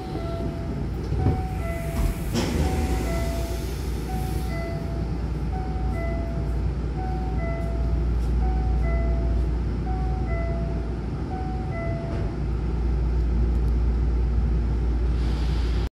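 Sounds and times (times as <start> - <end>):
train humming: 0.0 - 15.9.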